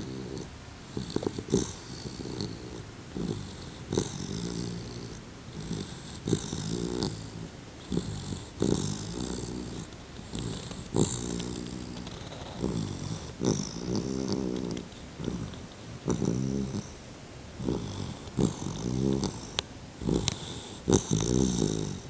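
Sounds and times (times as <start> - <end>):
puppy snoring: 0.0 - 22.0.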